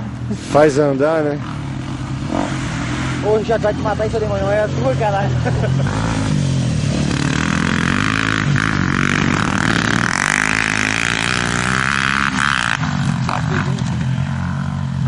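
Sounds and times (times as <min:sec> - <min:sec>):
wind and road noise: 0:00.0 - 0:15.0
motorcycle engine running: 0:00.8 - 0:15.0.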